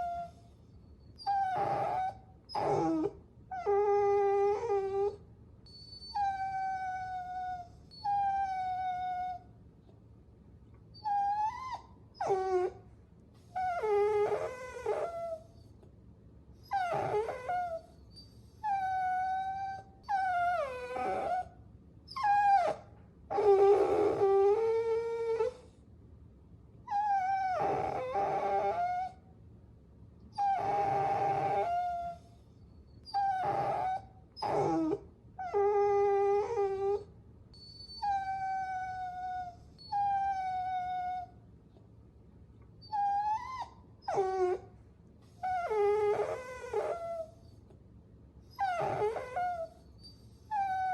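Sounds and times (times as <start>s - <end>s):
puppies whining: 0.0s - 9.4s, 10.9s - 12.8s, 13.4s - 15.7s, 16.6s - 21.5s, 22.1s - 25.7s, 26.9s - 29.2s, 30.3s - 41.4s, 42.8s - 47.6s, 48.5s - 50.9s.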